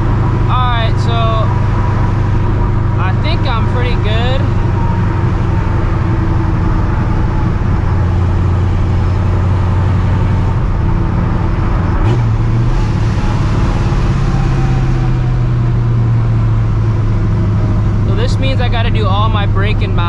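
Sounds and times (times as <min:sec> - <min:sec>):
car engine exhaust drone: 0:00.0 - 0:20.0.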